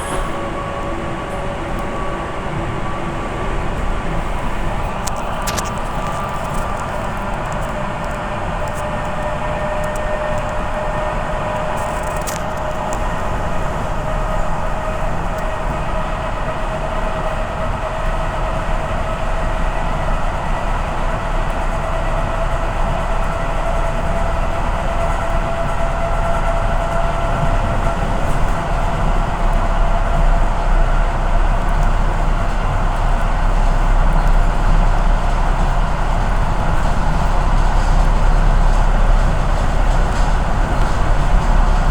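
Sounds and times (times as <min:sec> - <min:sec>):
train rumble and rising whine: 0:00.0 - 0:41.9.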